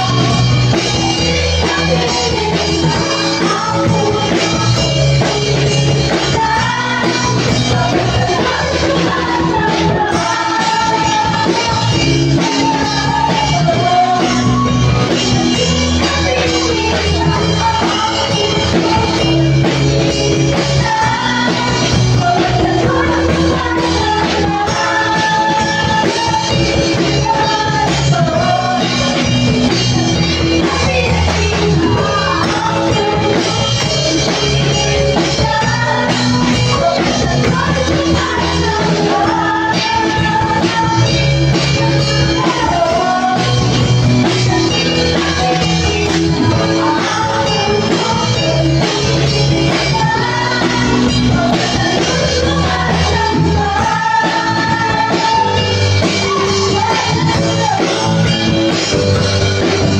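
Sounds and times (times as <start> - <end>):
rock band playing: 0.0 - 59.9
woman singing lead vocals: 0.0 - 59.9.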